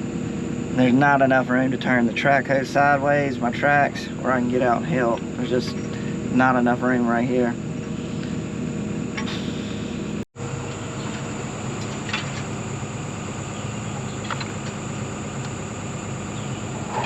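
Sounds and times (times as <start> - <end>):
diesel engine running: 0.0 - 17.0
high insect drone: 0.0 - 17.0.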